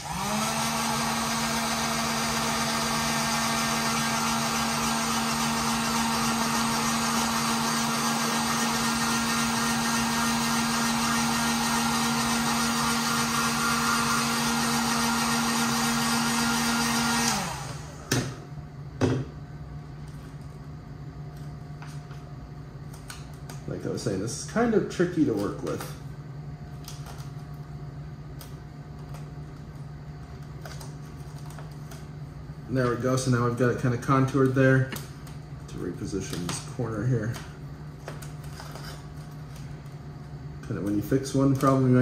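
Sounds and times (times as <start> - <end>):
heat gun fan humming: 0.0 - 42.0.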